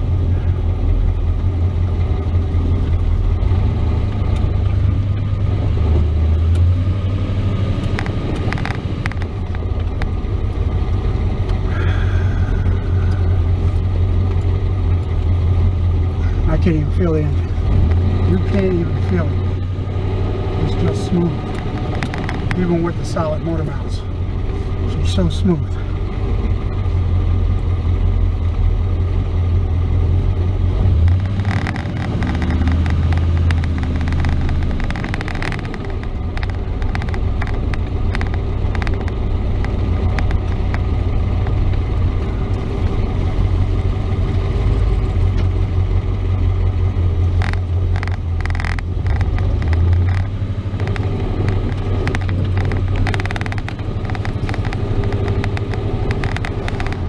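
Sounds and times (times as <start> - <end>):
pickup engine and road drone: 0.0 - 57.0.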